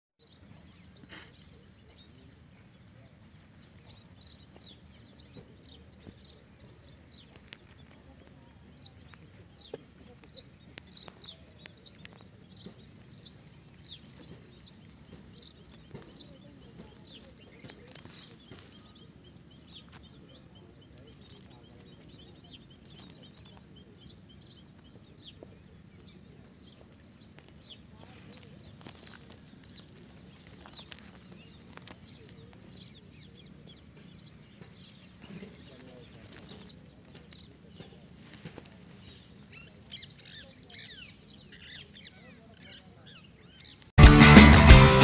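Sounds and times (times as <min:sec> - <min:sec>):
small birds chirping: 0:00.2 - 0:44.7.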